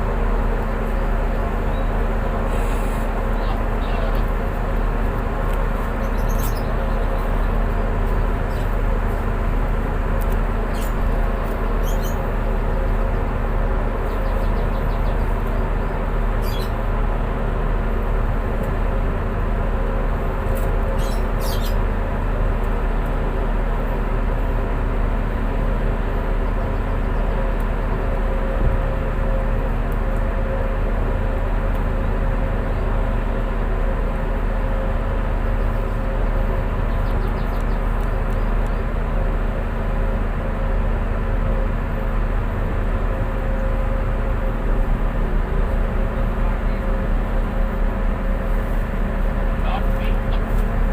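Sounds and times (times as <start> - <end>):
boat engines droning: 0.0 - 50.9.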